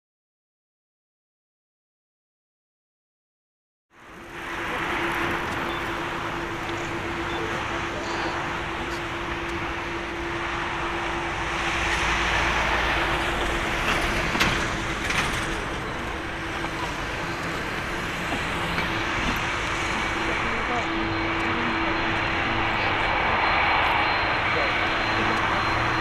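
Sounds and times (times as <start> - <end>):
jet engines idling: 4.0 - 26.0.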